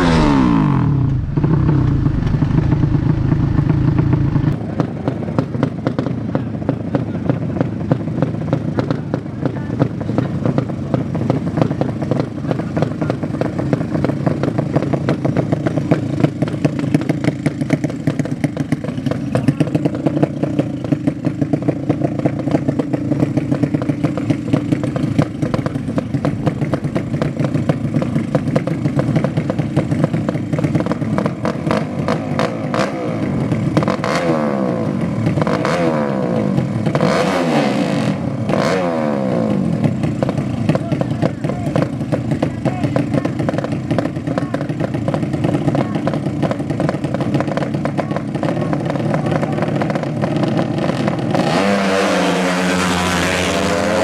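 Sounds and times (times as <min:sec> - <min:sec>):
engine revving: 0:00.0 - 0:04.9, 0:08.8 - 0:54.0
motorcycle engines running loudly: 0:00.0 - 0:54.0.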